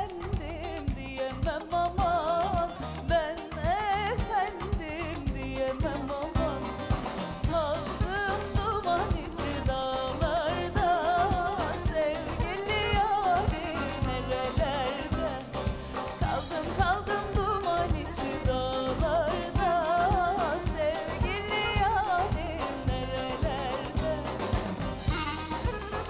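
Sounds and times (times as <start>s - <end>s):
woman singing ornamented melody: 0.0s - 24.5s
folk-pop instrumental backing: 0.0s - 26.0s.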